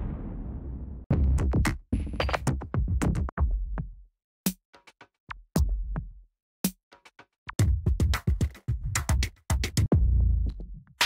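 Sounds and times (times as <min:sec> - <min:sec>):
drum machine beats with bass: 0:01.1 - 0:10.8.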